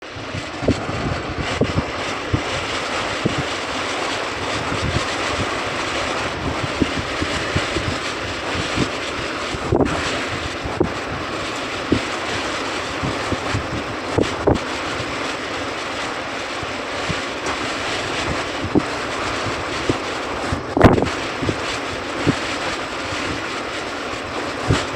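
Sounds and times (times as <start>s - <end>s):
air conditioner blowing air: 0.0s - 24.9s
low thumps of air on microphone: 0.0s - 24.9s.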